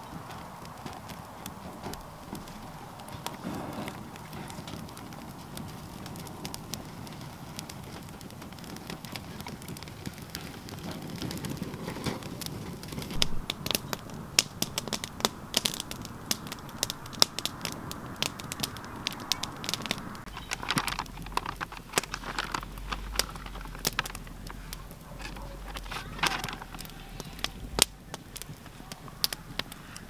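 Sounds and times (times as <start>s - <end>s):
campfire crackling: 0.0s - 30.0s
sharp pops of fire: 0.0s - 30.0s.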